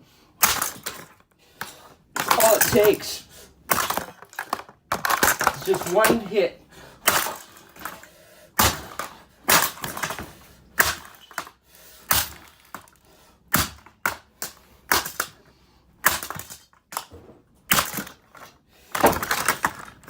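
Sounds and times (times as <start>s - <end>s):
plastic cracking and breaking: 0.4s - 3.1s, 3.7s - 6.4s, 7.0s - 15.4s, 16.0s - 20.0s
hard blows smashing plastic: 0.4s - 15.4s, 16.0s - 20.0s.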